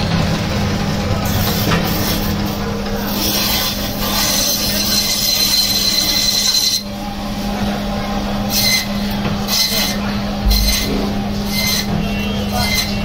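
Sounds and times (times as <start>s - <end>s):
band saw humming: 0.0s - 13.0s.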